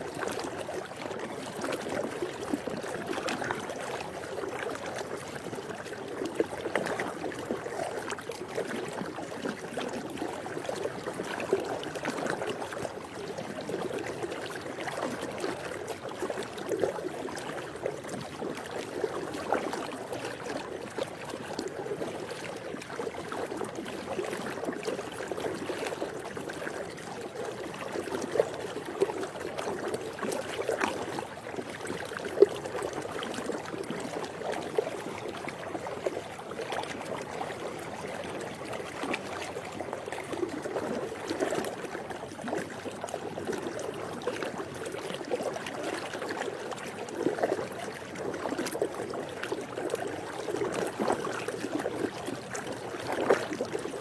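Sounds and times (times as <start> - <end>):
pool water lapping: 0.0 - 54.0.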